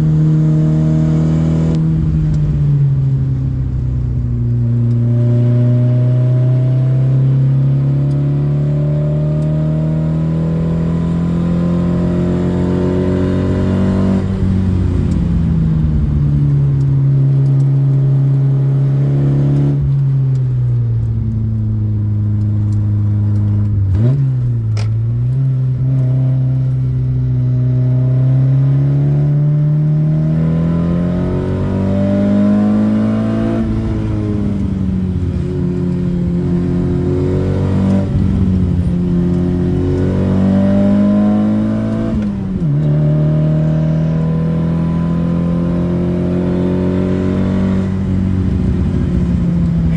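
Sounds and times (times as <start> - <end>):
car engine revving uphill: 0.0 - 49.9.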